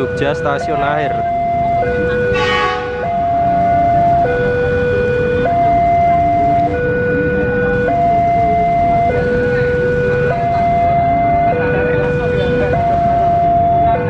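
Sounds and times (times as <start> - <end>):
electric train rumbling: 0.0 - 14.0
level crossing two-tone alarm: 0.0 - 14.0.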